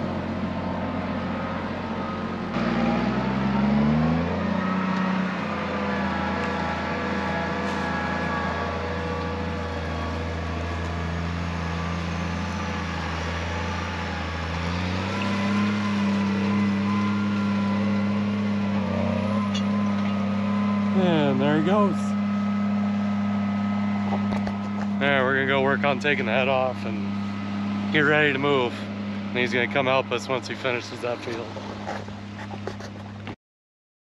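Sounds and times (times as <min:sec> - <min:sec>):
tractor diesel engine under load: 0:00.0 - 0:33.2.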